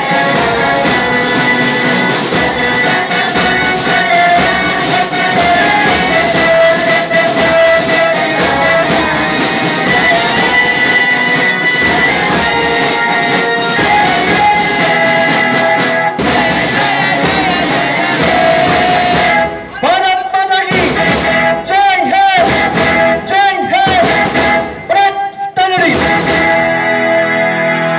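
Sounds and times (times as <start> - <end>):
recorded music: 0.0 - 27.9.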